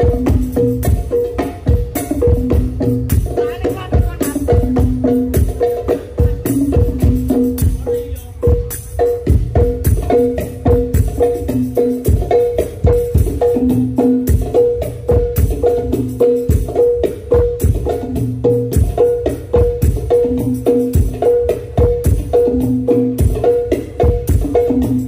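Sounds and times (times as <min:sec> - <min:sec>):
hand drums playing rhythm: 0:00.0 - 0:25.0.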